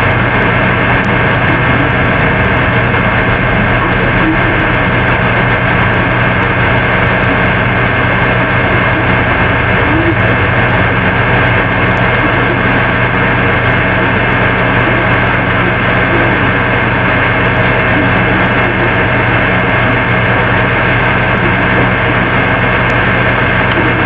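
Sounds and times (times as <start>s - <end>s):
loud hum and hiss: 0.0s - 24.0s
steady tones: 0.0s - 24.0s.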